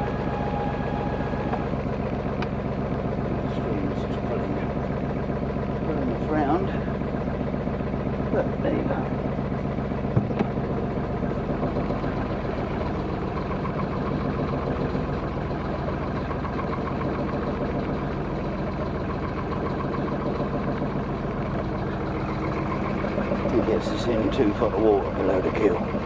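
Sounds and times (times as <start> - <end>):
boat engine running steadily: 0.0 - 26.0.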